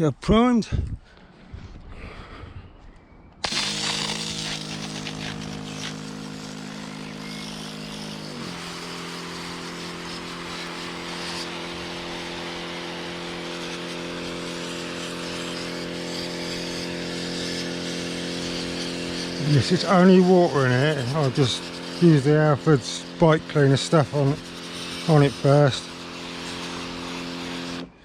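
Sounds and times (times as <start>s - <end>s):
pressure washer pump humming: 3.4s - 28.0s
water spray hissing: 3.4s - 28.0s.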